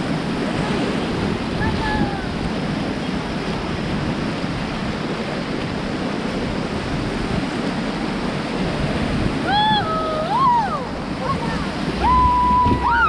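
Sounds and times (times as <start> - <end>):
whitewater river rushing: 0.0 - 13.0.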